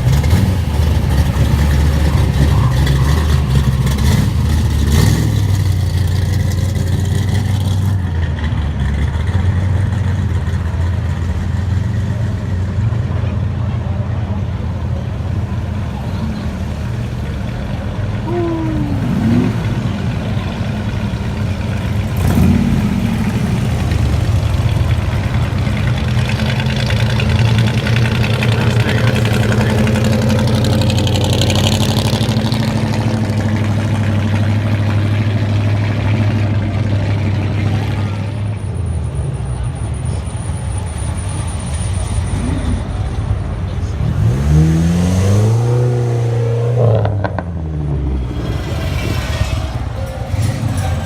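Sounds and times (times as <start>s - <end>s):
car engines idling: 0.0s - 45.5s, 46.1s - 51.0s.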